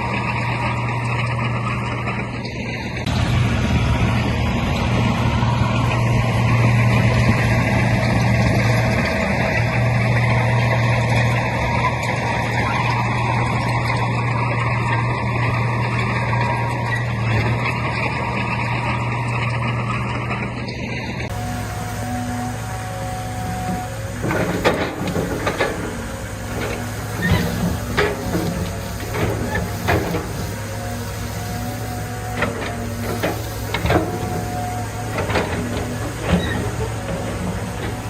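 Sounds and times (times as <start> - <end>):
heavy diesel engine drone: 0.0 - 38.0.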